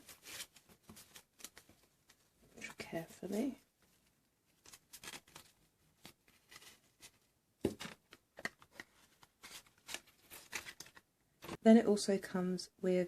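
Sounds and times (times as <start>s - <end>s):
paper and card packaging rustling: 0.0s - 2.8s, 3.4s - 11.6s.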